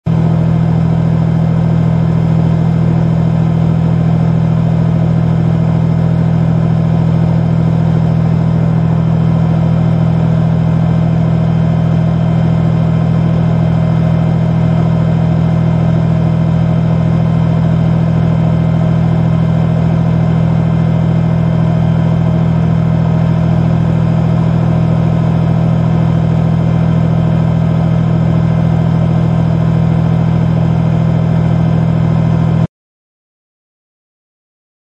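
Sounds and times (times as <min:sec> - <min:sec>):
tank engine droning: 0:00.1 - 0:32.7.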